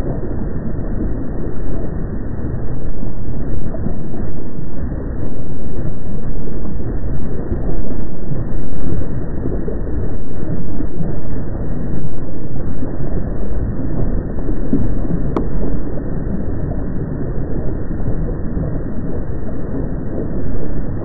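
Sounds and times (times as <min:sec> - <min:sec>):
deep volcano rumbling: 0:00.0 - 0:21.0.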